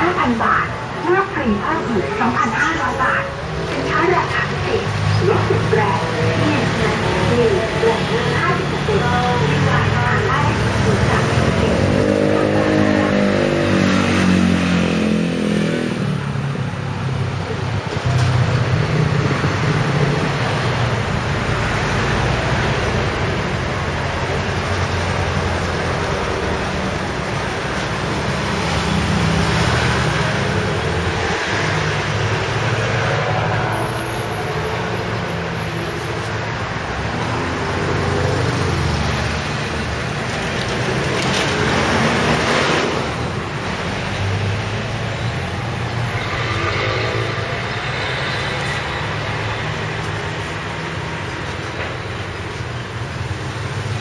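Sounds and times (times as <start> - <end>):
vehicles passing by: 0.0 - 54.0.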